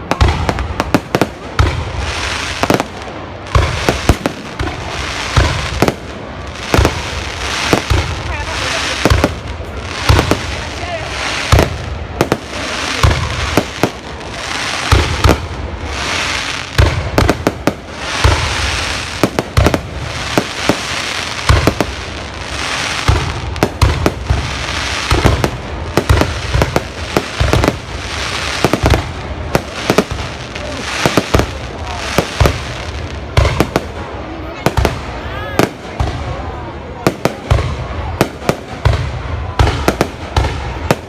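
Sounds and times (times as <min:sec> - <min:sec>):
fireworks bangs: 0:00.0 - 0:41.0
fireworks crackling hiss: 0:00.0 - 0:41.0.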